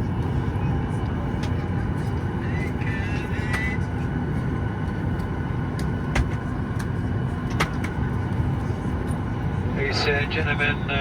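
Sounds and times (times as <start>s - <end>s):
cabin air system rumble: 0.0s - 11.0s.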